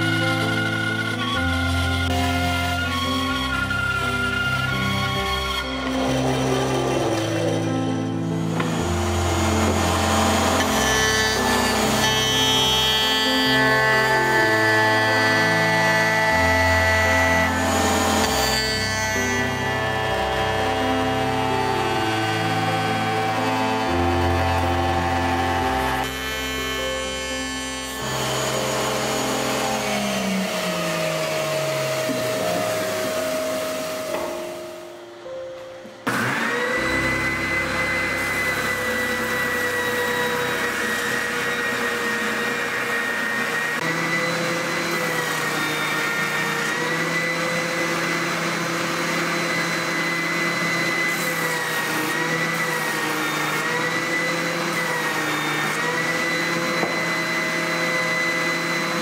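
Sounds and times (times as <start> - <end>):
router motor winding down: 0.0 - 35.1, 36.1 - 59.0
spindle sander whine: 0.0 - 59.0.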